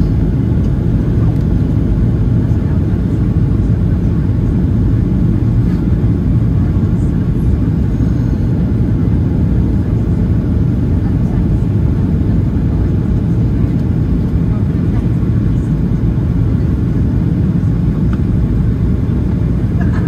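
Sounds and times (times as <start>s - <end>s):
airliner cabin engine rumble: 0.0s - 20.0s.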